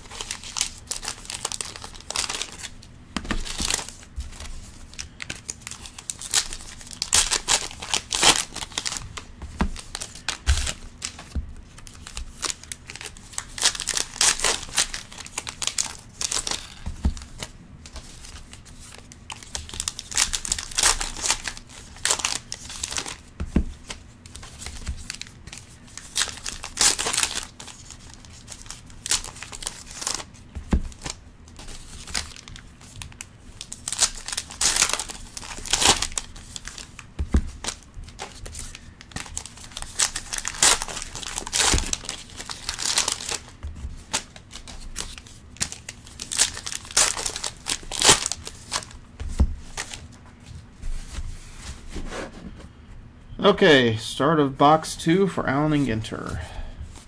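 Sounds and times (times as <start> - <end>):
foil wrappers crinkling: 0.0 - 52.0.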